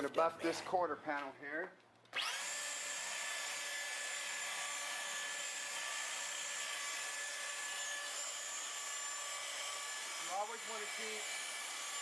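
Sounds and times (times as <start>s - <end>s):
electric buffer whirring: 2.2s - 12.0s.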